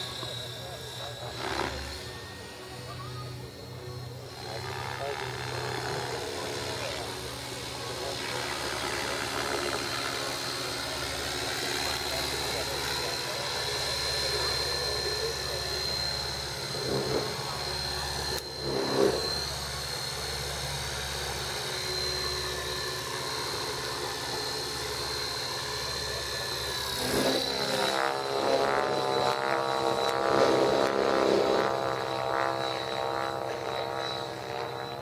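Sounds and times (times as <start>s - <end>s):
model airplane engine droning: 0.0s - 35.0s.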